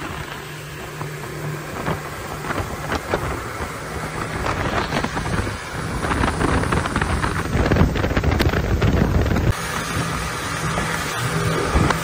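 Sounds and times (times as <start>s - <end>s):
outboard motors droning: 0.0s - 12.0s
water rushing past hull: 0.0s - 12.0s
wind buffeting microphone: 0.0s - 12.0s.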